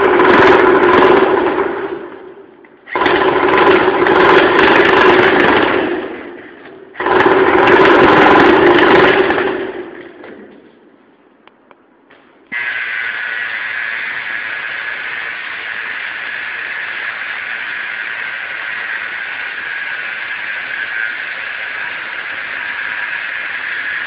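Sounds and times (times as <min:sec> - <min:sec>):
concrete saw running: 0:00.0 - 0:02.1, 0:02.9 - 0:10.0, 0:12.6 - 0:24.0.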